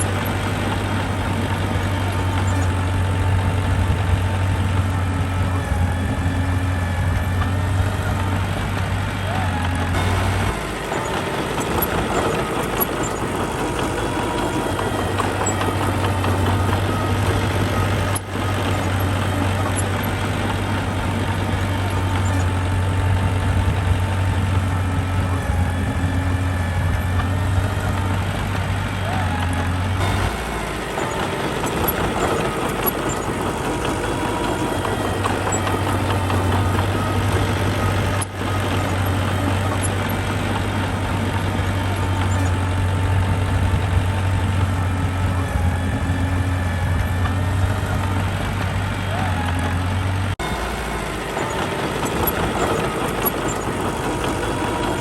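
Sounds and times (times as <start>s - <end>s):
diesel engine low drone: 0.0s - 55.0s.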